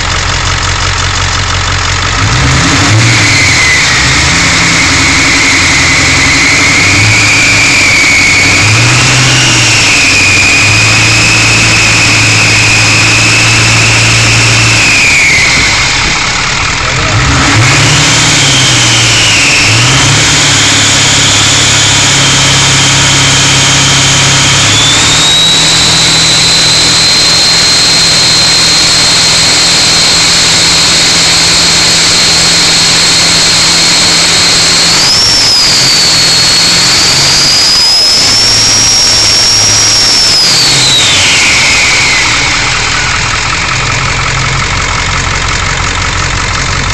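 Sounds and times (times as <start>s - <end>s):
diesel engine running: 0.0s - 46.9s
turbocharger whistle: 0.1s - 46.9s.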